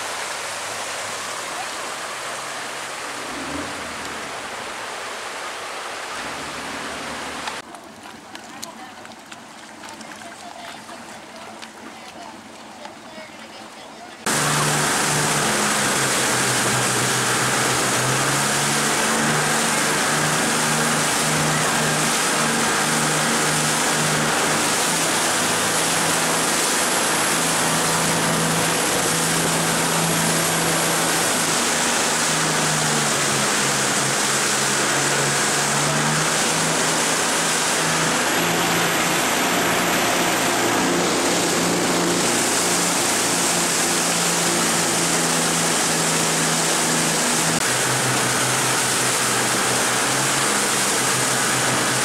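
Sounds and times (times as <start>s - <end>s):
boat engine drone: 0.0s - 52.0s
rushing water: 0.0s - 52.0s.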